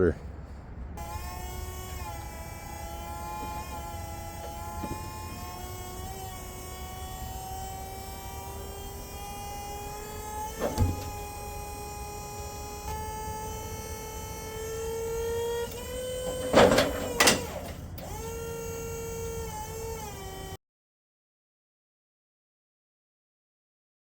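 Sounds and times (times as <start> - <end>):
engine with rising whine: 1.0 - 20.6.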